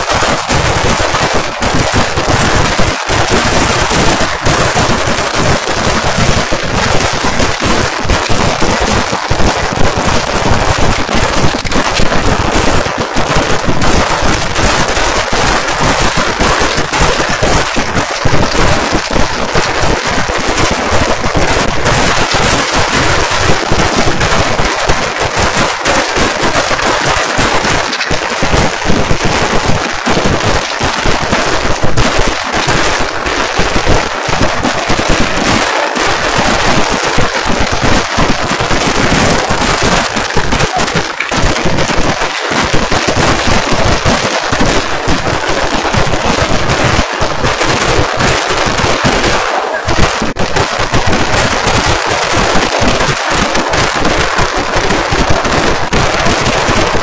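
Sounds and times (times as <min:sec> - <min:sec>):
firecrackers bursting: 0:00.0 - 0:57.0.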